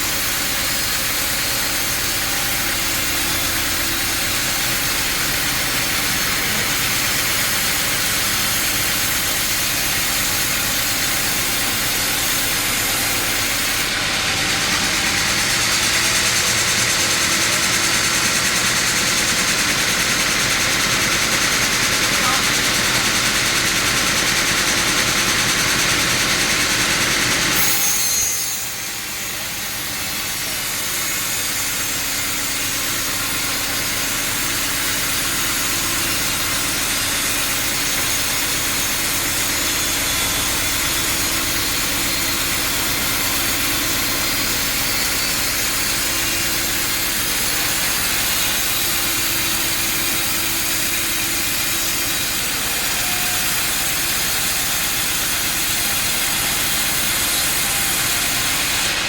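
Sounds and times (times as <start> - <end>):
sawmill machinery hiss: 0.0 - 59.0.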